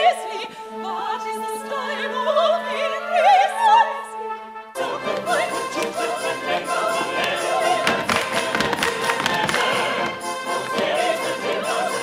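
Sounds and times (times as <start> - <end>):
operatic singing with vibrato: 0.0 - 12.0
orchestra playing: 0.0 - 12.0.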